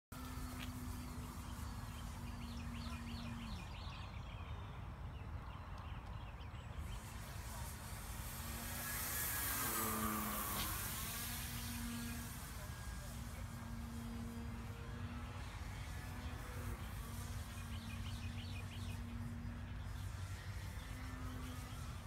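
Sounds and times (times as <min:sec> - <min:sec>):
model airplane motor droning: 0:00.1 - 0:22.0
birds chirping: 0:00.2 - 0:22.0.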